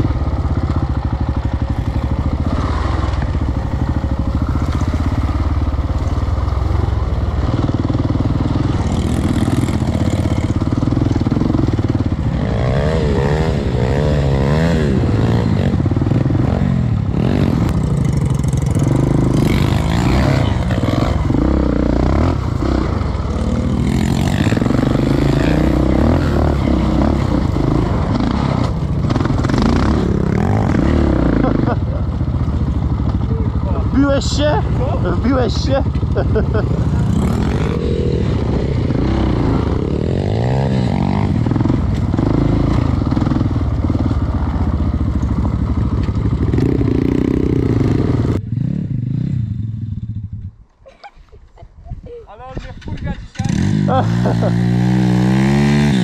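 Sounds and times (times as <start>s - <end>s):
quad engine revving: 0.0s - 49.9s, 53.1s - 56.0s.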